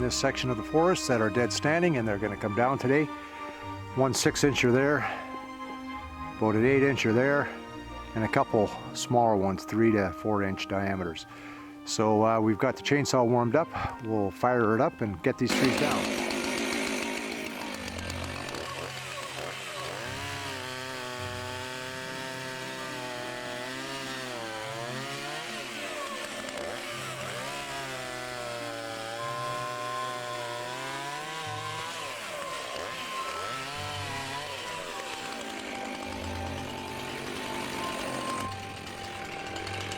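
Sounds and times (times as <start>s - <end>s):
chainsaw cutting wood: 0.0s - 12.1s, 14.7s - 39.9s.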